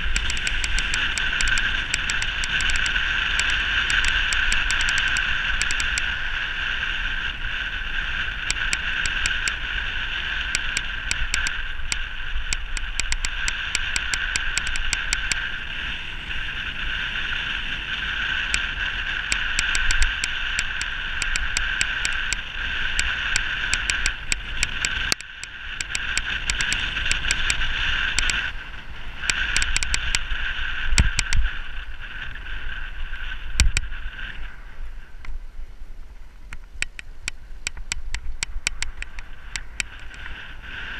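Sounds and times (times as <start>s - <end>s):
sharp ticks from bike: 0.0s - 34.5s, 36.5s - 40.9s
bike wheels whirring: 0.0s - 35.5s, 36.4s - 40.9s
wind buffeting camera: 0.0s - 40.9s.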